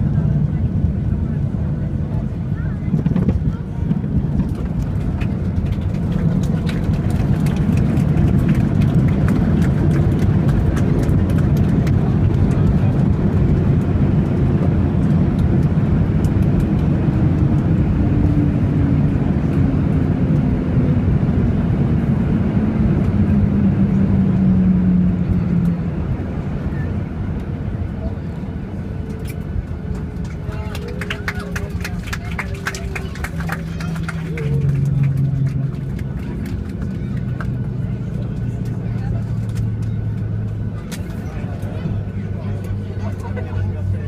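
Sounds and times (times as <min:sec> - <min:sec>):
jet engine roar in cabin: 0:00.0 - 0:44.0.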